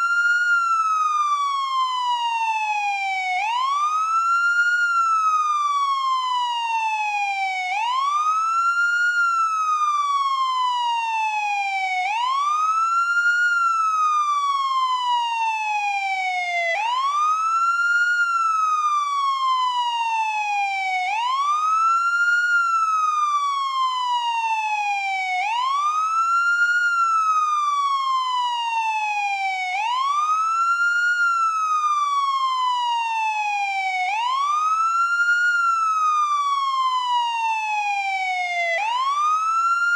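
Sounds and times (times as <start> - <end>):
police car siren wailing: 0.0 - 39.9.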